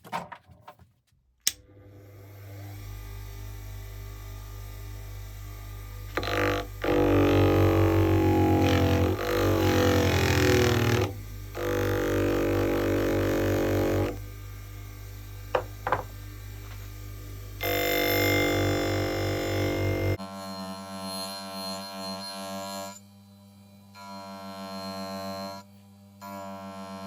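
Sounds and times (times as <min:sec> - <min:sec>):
power tool droning: 0:01.7 - 0:27.0.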